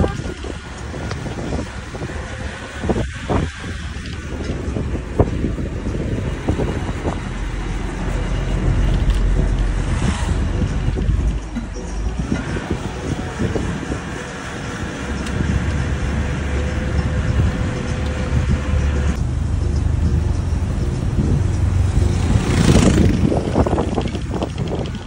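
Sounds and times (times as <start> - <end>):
rushing air noise: 0.0 - 25.0
vehicle engine and road rumble: 0.0 - 25.0.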